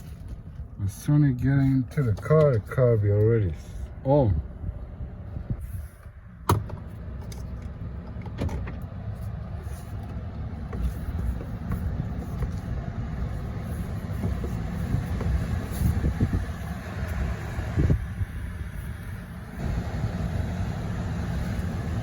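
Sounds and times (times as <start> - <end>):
low rumbling vehicle noise: 0.0 - 22.0.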